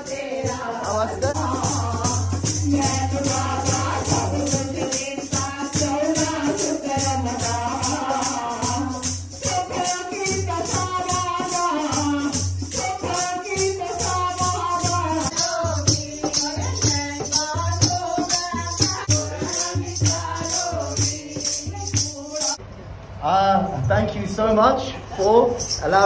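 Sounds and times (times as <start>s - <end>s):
group of women singing: 0.0s - 22.6s
rattle beat: 0.0s - 22.6s, 25.6s - 26.0s.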